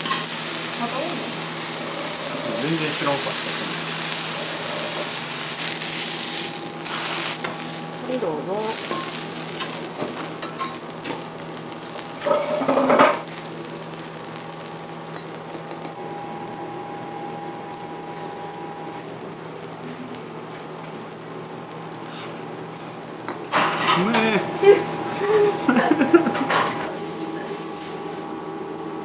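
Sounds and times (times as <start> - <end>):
food sizzling on griddle: 0.0 - 28.2.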